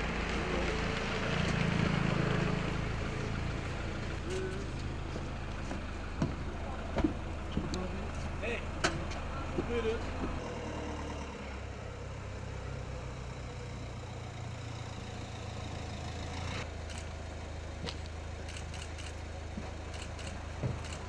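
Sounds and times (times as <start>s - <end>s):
minibus engine humming: 0.0s - 21.0s.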